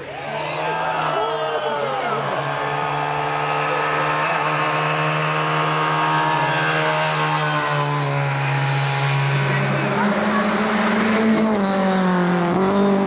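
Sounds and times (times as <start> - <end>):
rally car engine at high revs: 0.4 - 13.0.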